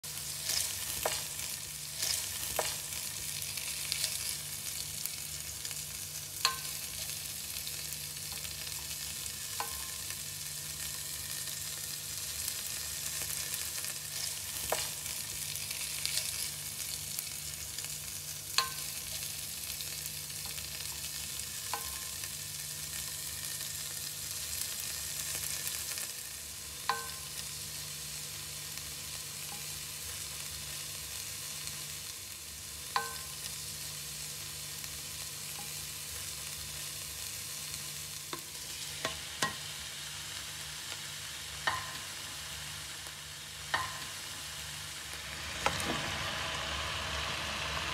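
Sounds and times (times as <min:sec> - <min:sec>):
onions sizzling in oil: 0:00.0 - 0:47.9.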